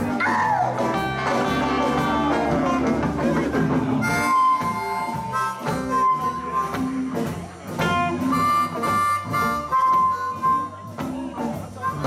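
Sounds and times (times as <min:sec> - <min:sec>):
blues band playing: 0:00.0 - 0:12.0
electric guitar: 0:00.0 - 0:12.0
harmonica bent notes: 0:00.2 - 0:12.0.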